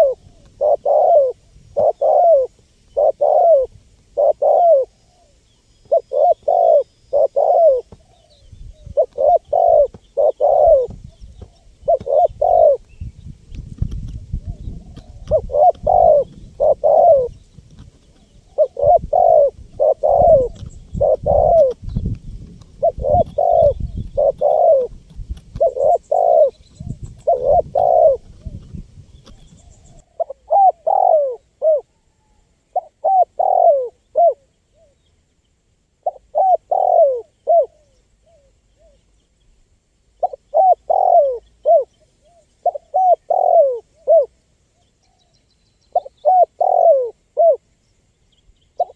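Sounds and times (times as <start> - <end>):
dove cooing: 0.0 - 13.1, 13.8 - 35.0, 36.0 - 39.1, 40.2 - 44.4, 45.9 - 47.6.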